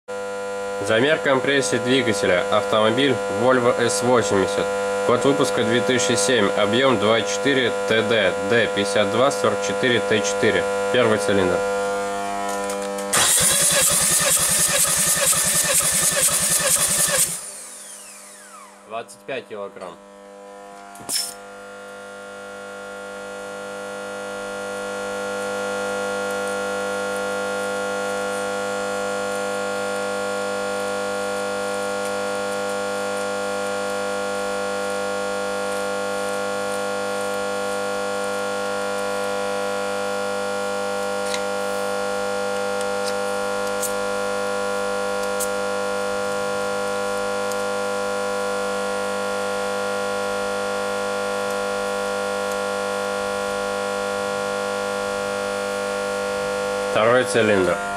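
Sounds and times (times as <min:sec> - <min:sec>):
loud mechanical hum: 0:00.1 - 0:57.9.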